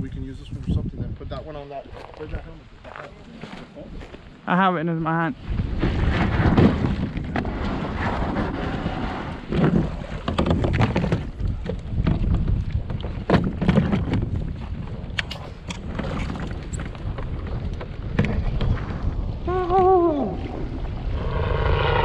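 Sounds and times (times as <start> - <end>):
wind buffeting microphone: 0.0 - 4.4, 5.3 - 22.0.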